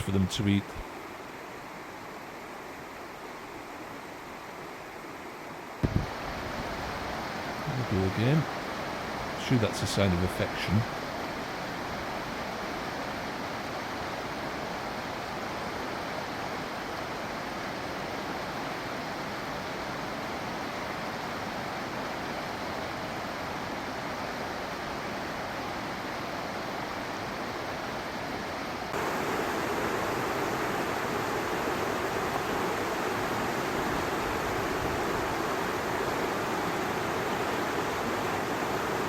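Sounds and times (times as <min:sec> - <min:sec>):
river rushing: 0:00.0 - 0:39.0.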